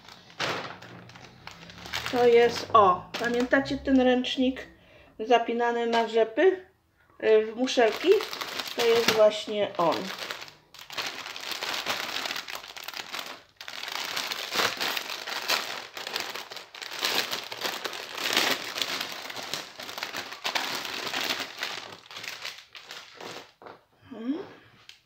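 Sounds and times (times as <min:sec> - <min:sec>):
plastic bag crinkling: 0:00.0 - 0:04.1, 0:07.6 - 0:23.8.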